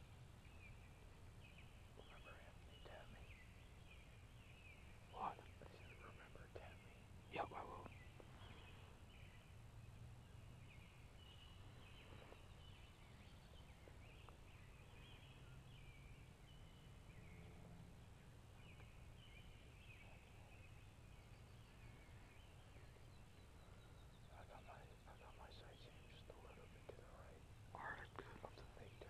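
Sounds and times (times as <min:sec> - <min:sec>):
faint bird calls: 0:00.0 - 0:29.0.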